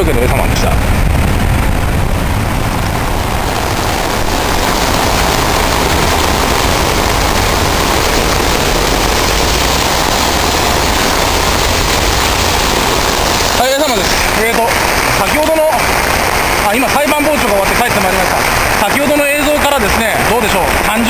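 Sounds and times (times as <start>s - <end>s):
deep rumble: 0.0s - 21.0s
heavy rain falling: 0.0s - 21.0s.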